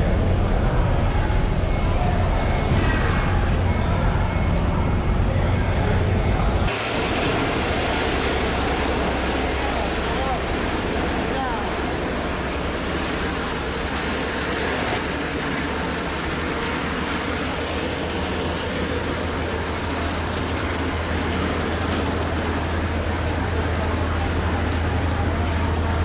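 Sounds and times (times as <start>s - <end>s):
busy market din: 0.0s - 26.0s.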